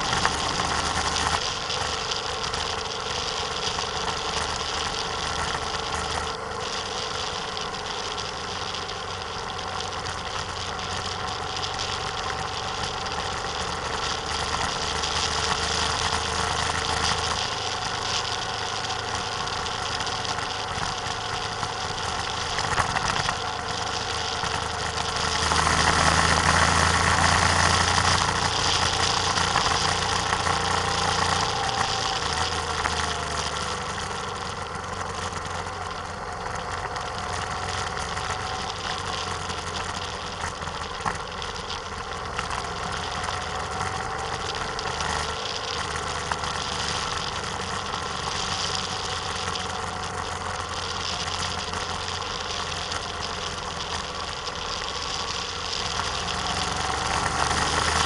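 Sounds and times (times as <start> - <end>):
vehicle engine running: 0.0 - 58.0
wind and road noise: 0.0 - 58.0.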